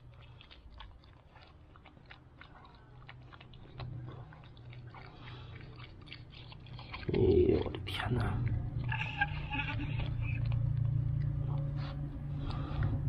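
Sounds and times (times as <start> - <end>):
dog chewing and licking: 0.0 - 13.0.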